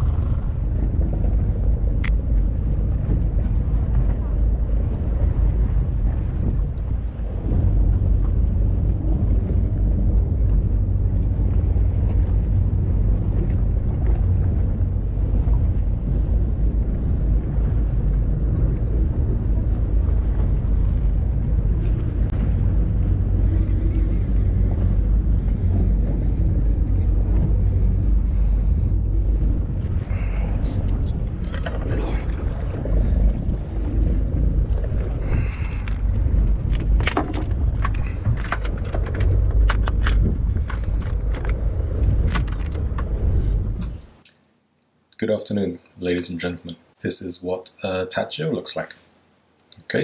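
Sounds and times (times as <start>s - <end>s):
wind buffeting microphone: 0.0s - 44.2s.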